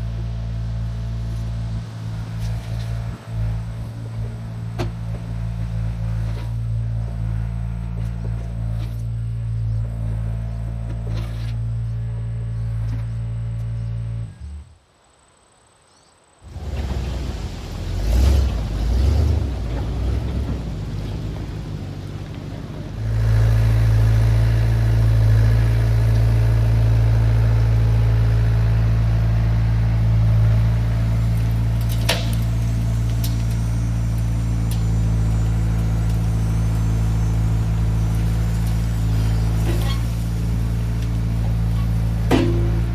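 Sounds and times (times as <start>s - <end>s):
truck engine droning: 0.0s - 14.8s, 16.4s - 42.9s.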